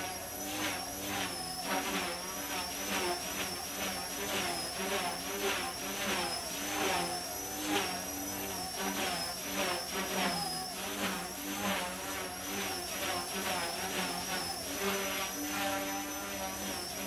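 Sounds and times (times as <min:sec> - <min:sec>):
rc helicopter motor whine: 0:00.0 - 0:17.0.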